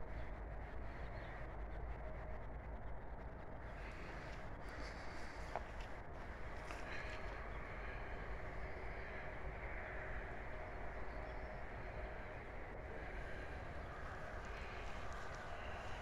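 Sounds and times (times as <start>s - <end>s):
faint constant hum: 0.0s - 16.0s
low outdoor rumble: 0.0s - 16.0s.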